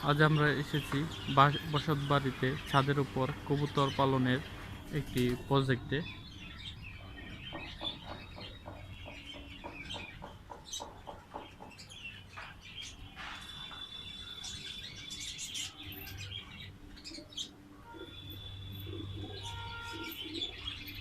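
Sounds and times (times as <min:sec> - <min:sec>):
pigeons and birds calling: 0:00.0 - 0:21.0.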